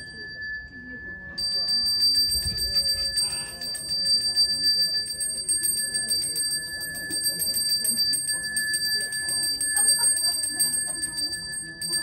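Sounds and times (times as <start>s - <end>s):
hand bell rung rapidly: 1.4s - 12.0s.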